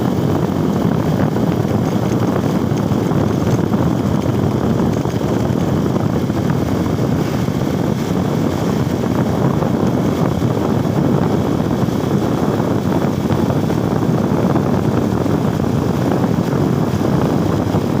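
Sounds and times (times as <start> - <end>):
motorcycle engine: 0.0 - 18.0
wind rumble on microphone: 0.0 - 18.0.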